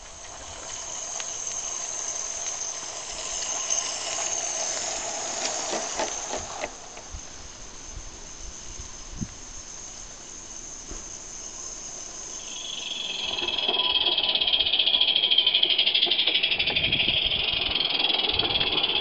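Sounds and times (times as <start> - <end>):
small steam locomotive hissing: 0.0 - 19.0.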